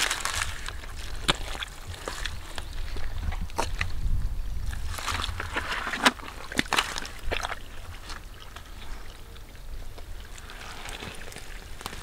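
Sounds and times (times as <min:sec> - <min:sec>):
hands squelching in mud: 0:00.0 - 0:03.9, 0:04.7 - 0:09.2, 0:10.2 - 0:12.0.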